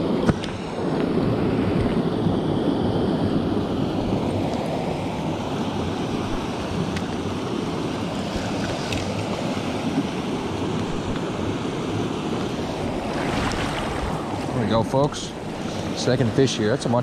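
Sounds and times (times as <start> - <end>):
stream rushing over cascade: 0.0 - 17.0.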